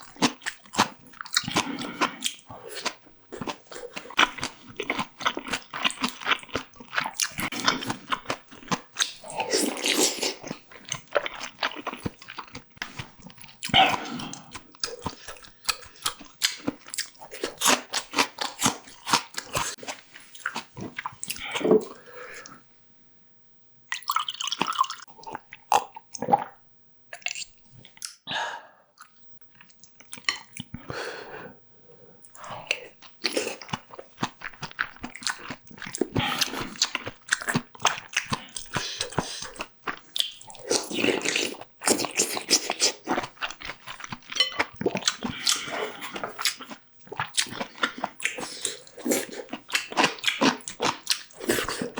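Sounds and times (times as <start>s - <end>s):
chewing and crunching food: 0.0s - 22.7s, 23.9s - 28.2s, 29.0s - 51.9s.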